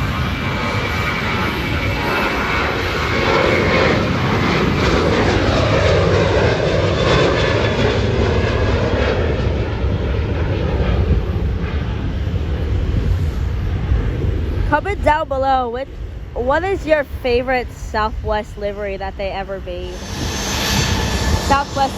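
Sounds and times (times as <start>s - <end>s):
high engine whine: 0.0s - 21.9s
jet engines passing: 0.0s - 21.9s.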